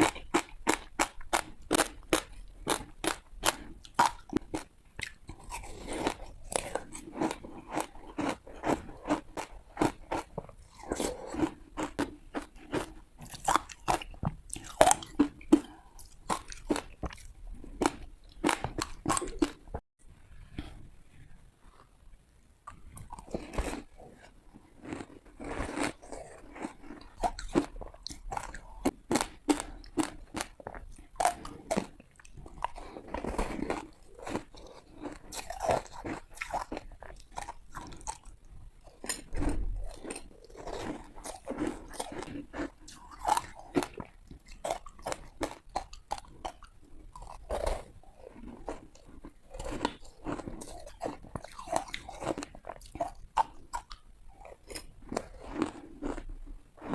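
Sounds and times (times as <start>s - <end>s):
ice being chewed: 0.0s - 19.8s, 22.7s - 56.9s.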